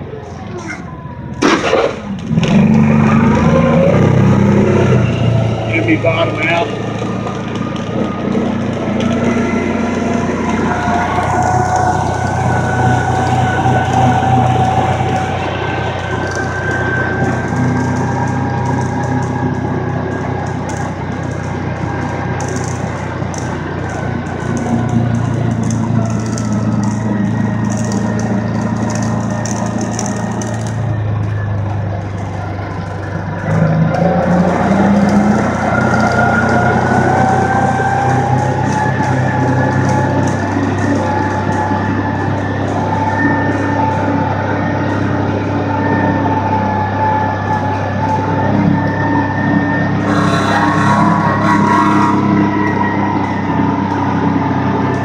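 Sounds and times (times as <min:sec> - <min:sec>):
atv engine running: 0:00.0 - 0:55.0
road and wind noise: 0:00.0 - 0:55.0.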